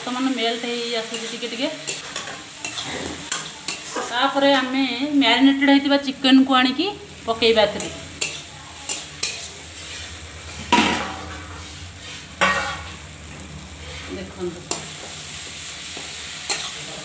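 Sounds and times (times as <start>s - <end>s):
chicken sizzling in a pan: 0.0s - 17.0s
metal spatula scraping a pan: 1.0s - 5.9s, 7.5s - 17.0s.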